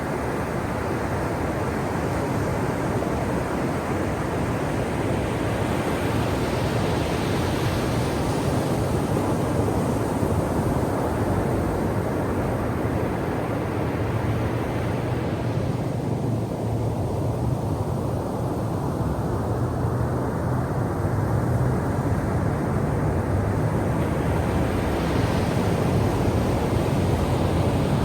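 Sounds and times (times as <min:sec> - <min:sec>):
ocean surf washing ashore: 0:00.0 - 0:28.0.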